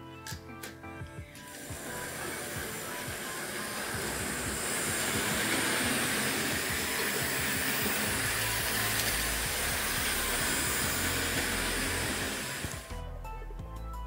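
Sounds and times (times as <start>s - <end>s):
quiet background music: 0.0s - 14.0s
model train rattling on track: 1.6s - 12.8s.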